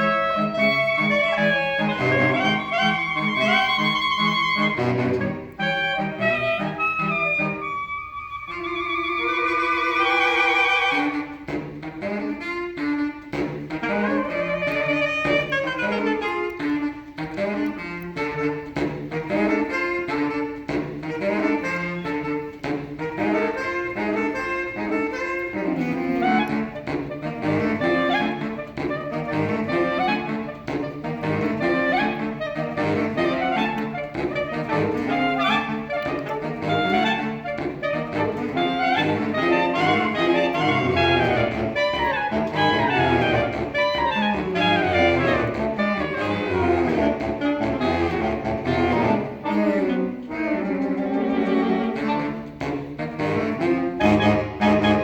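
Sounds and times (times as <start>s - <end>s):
saxophone quartet playing: 0.0s - 55.0s.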